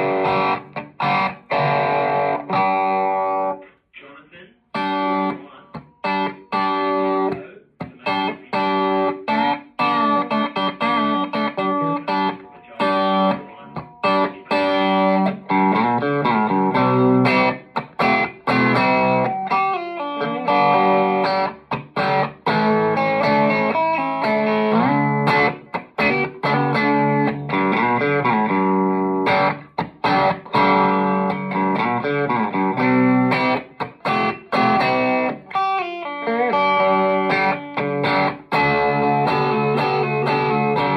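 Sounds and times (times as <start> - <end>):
overdriven electric guitar: 0.0 - 3.6, 4.7 - 40.9.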